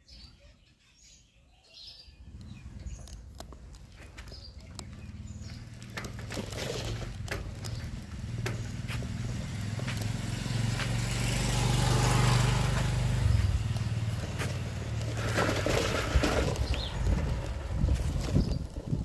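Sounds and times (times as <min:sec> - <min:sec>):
small motorcycle engine passing: 0:02.1 - 0:19.0
bicycle rattles and clicks: 0:02.2 - 0:19.0.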